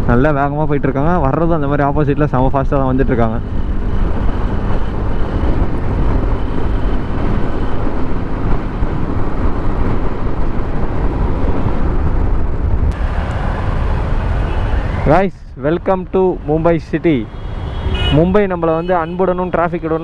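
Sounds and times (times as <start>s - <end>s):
wind buffeting microphone: 0.0s - 18.4s
road noise: 0.0s - 20.0s.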